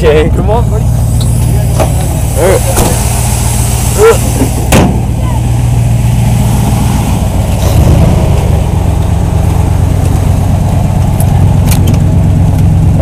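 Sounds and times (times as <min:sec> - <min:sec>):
engine running with deep rumble: 0:00.0 - 0:13.0.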